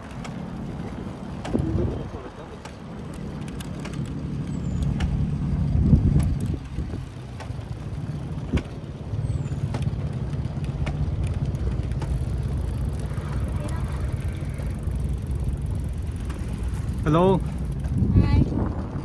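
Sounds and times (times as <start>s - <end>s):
bicycle clicks and rattles: 0.0s - 19.0s
wind buffeting microphone: 0.0s - 19.0s.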